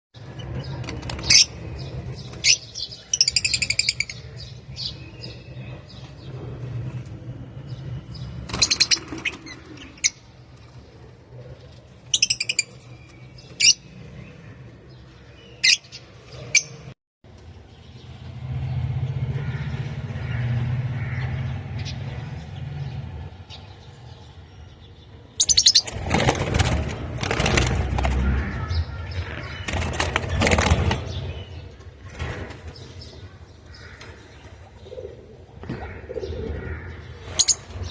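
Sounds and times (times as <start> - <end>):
lovebirds chirping and squawking: 0.2 - 17.0, 21.0 - 37.9.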